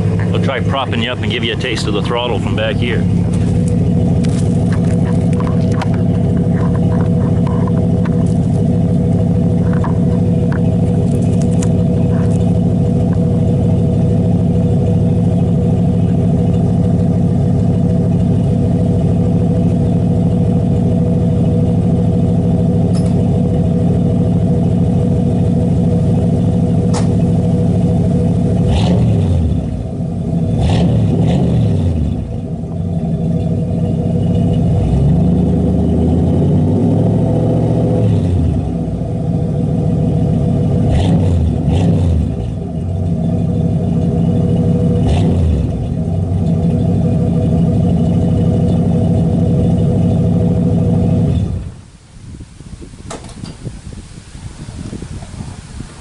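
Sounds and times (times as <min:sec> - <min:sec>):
truck engine revving: 0:00.0 - 0:51.8.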